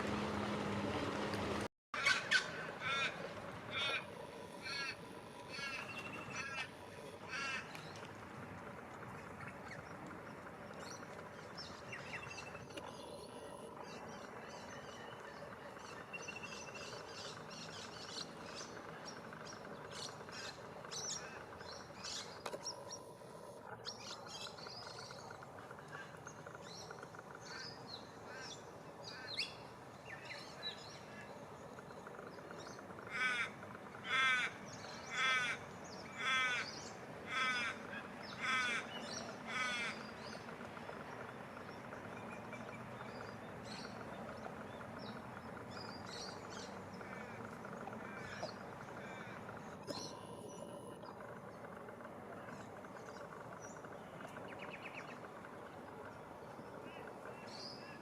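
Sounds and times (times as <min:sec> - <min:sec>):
outdoor background noise: 0:00.0 - 0:58.0
birds chirping: 0:02.0 - 0:58.0.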